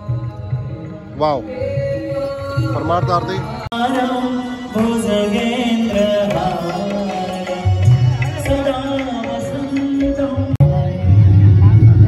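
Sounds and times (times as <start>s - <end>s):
devotional chant singing: 0.0s - 12.0s
instrumental accompaniment: 0.0s - 12.0s.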